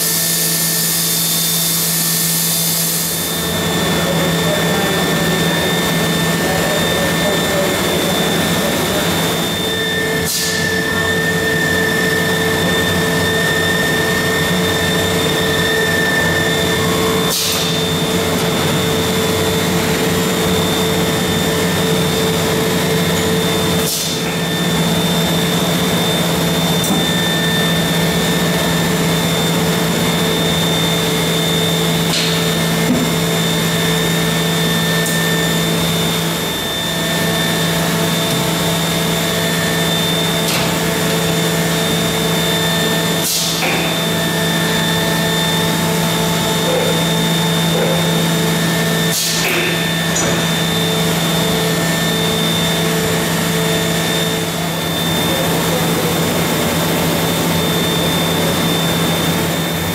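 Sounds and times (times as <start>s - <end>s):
machinery rushing hum: 0.0s - 59.9s.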